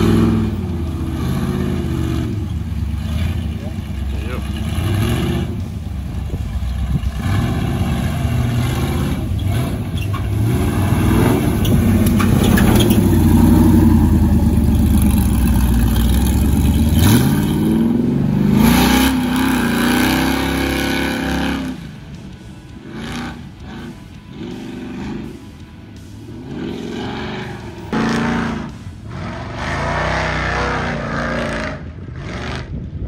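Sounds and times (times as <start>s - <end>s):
truck engines revving: 0.0s - 33.0s.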